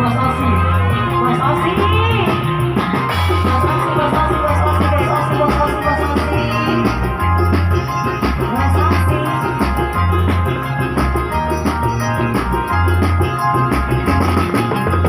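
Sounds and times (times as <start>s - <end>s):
heavy repeating bass line: 0.0s - 15.0s
steady drum beat: 0.0s - 15.0s.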